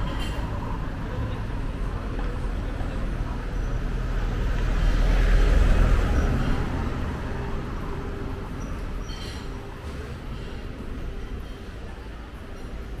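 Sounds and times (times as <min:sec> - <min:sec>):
town traffic: 0:00.0 - 0:13.0.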